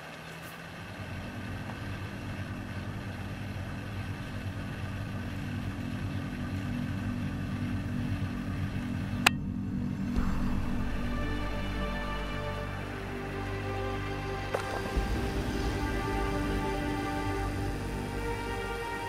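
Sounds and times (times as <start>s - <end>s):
engine running with low hum: 0.0s - 19.0s.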